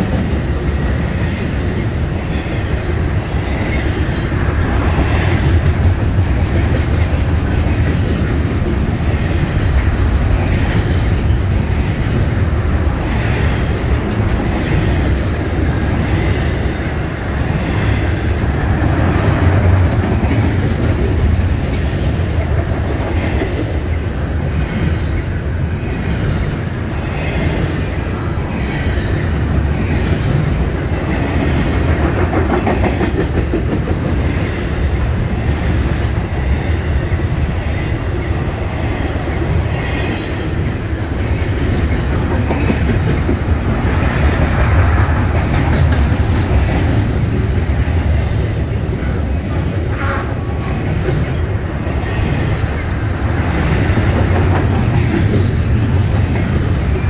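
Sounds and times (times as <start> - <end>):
train wheels rumbling on rail: 0.0 - 57.0
wheels clacking over rail joints: 0.0 - 57.0.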